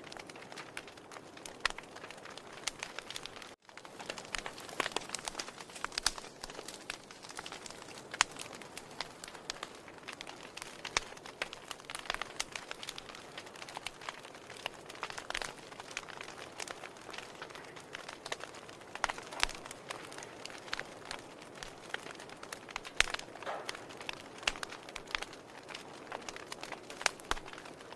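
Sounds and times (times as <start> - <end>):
firewood crackling and popping: 0.0 - 27.9
soft hiss of fire: 0.0 - 27.9.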